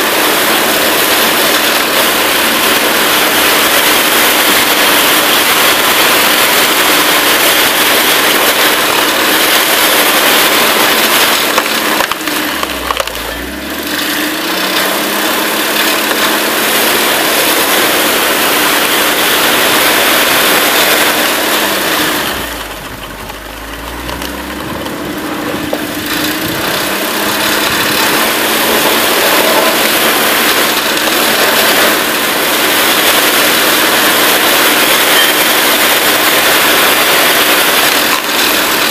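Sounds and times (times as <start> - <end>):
log splitting: 0.0 - 38.9
wood splitter engine running: 0.0 - 38.9.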